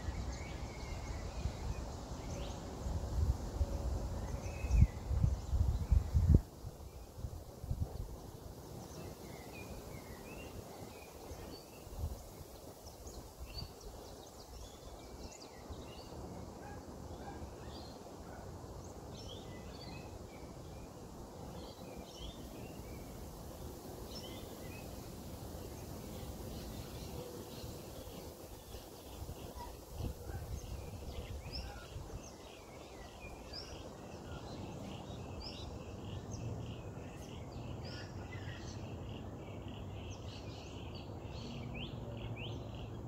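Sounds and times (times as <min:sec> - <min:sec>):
small birds chirping: 0:04.3 - 0:43.0.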